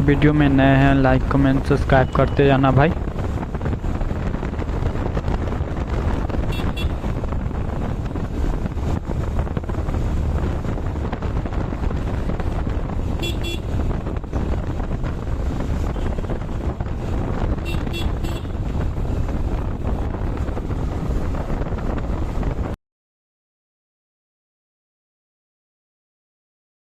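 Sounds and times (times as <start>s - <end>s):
wind buffeting microphone: 0.0s - 22.8s.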